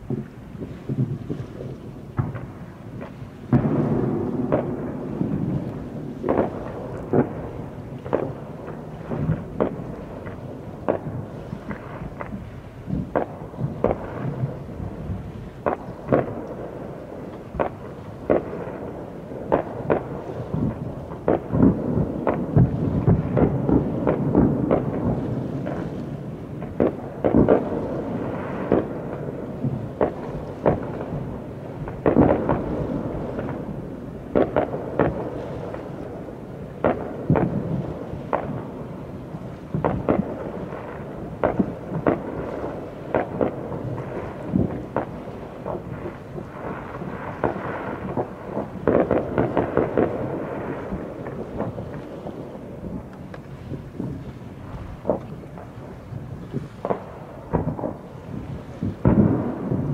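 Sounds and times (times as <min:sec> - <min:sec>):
fireworks bangs echoing: 0:00.0 - 0:59.9.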